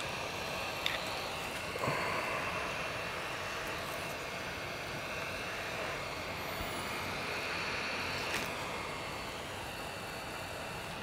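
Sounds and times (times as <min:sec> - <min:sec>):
faint high whine: 0:00.0 - 0:11.0
hot air tool hissing: 0:00.0 - 0:11.0.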